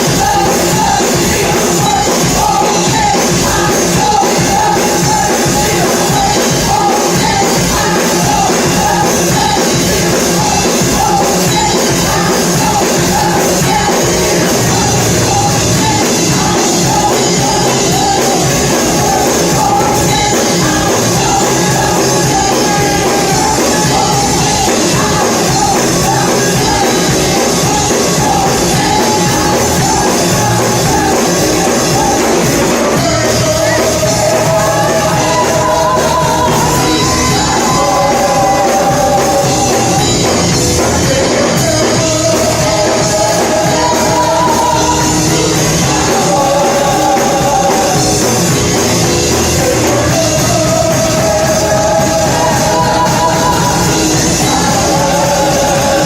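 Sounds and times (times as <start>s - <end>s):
band playing worship music: 0.0s - 56.0s
voices singing held notes: 0.0s - 56.0s.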